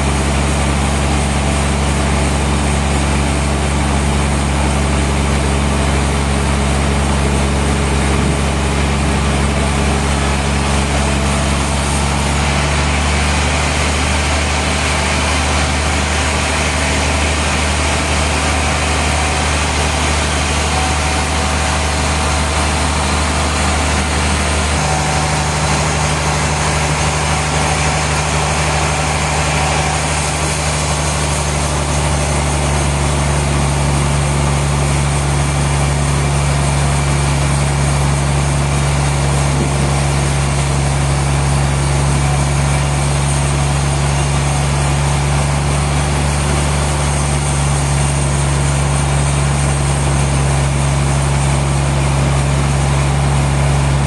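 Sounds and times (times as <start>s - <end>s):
sawmill machinery hum: 0.0s - 54.0s.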